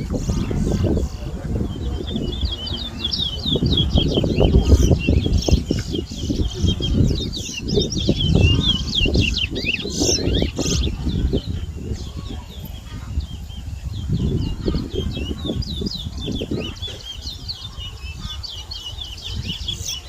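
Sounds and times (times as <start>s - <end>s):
finch singing high chirps: 0.0s - 20.0s.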